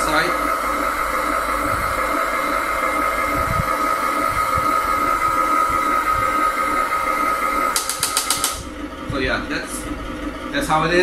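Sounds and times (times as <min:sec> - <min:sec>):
electric motor whine: 0:00.0 - 0:10.6.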